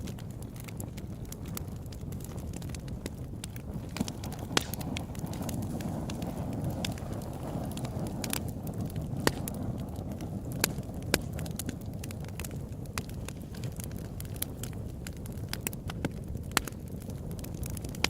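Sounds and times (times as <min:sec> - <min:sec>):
burning wood crackling and popping: 0:00.0 - 0:18.0
campfire low rumble: 0:00.0 - 0:18.0.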